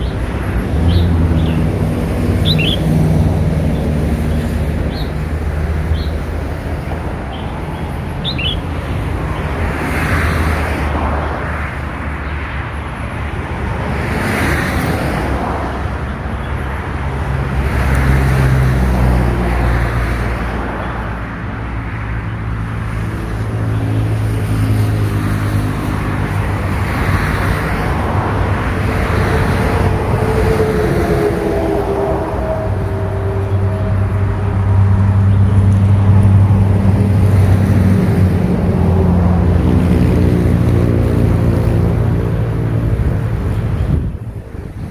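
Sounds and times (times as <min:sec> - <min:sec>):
road traffic rumble: 0:00.0 - 0:44.9.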